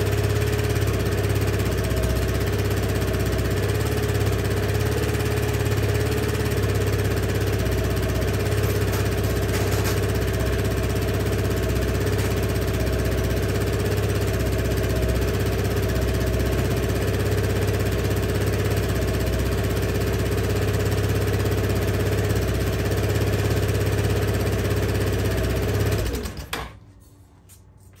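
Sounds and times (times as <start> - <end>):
scooter engine idling: 0.0 - 26.6.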